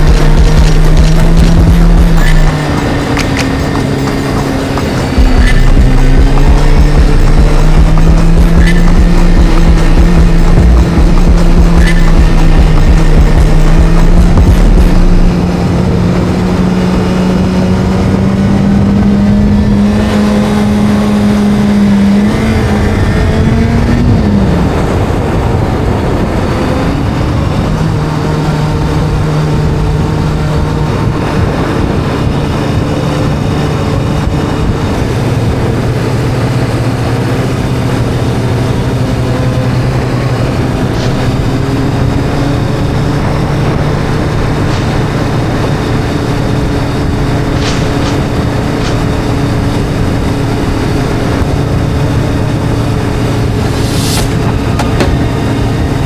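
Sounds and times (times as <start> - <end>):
video game motorcycle engine drone: 0.0 - 56.0.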